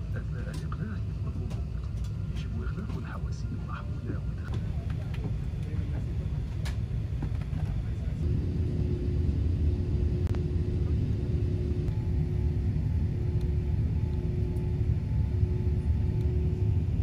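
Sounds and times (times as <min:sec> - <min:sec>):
jet engine rumble: 0:00.0 - 0:17.0
steady hum: 0:00.0 - 0:17.0.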